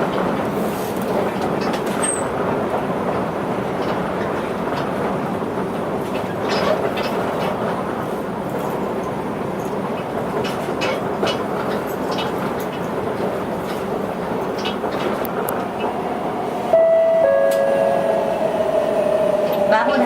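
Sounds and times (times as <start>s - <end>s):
maglev train cabin rush: 0.0s - 20.0s.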